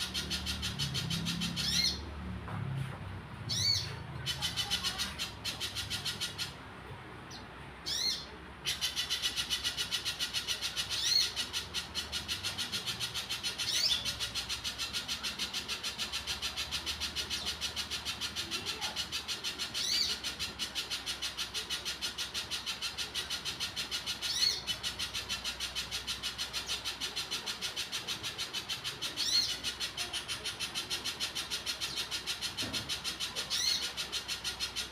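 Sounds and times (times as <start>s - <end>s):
bird singing sharp repeated notes: 0.0s - 2.1s, 7.3s - 34.9s
bird upswept call: 0.0s - 2.1s, 7.3s - 34.9s.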